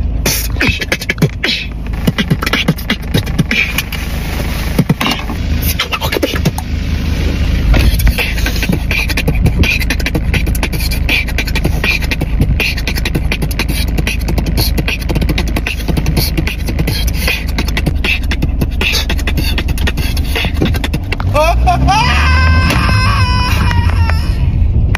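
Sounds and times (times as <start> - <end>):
beatboxing: 0.0 - 6.7, 7.7 - 24.3.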